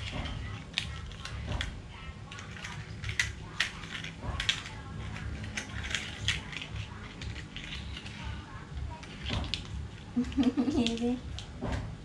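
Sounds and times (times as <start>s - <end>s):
plastic toy cars clicking on tiles: 0.0s - 11.6s.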